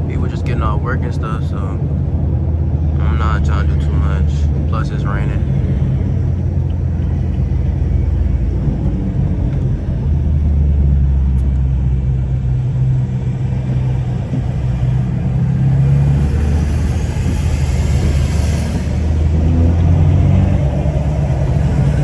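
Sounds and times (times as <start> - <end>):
car engine cabin drone: 0.0 - 22.0
tyres on wet road: 0.0 - 22.0.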